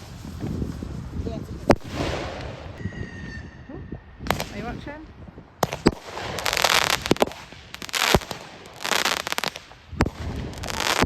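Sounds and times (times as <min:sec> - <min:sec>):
firework crackling: 0:00.0 - 0:02.8, 0:04.2 - 0:11.0
firework bangs: 0:00.0 - 0:11.0.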